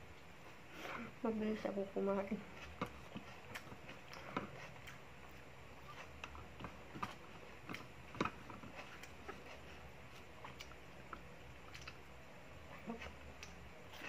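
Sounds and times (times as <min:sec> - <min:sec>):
chewing: 0:02.5 - 0:14.0.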